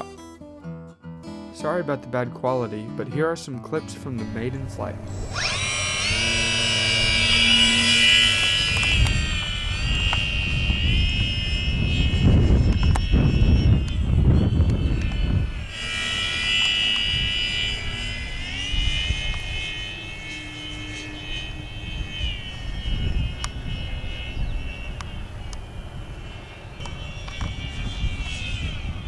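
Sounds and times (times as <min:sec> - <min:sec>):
wind on microphone: 0:04.5 - 0:29.0
model airplane motor whine: 0:04.6 - 0:29.0.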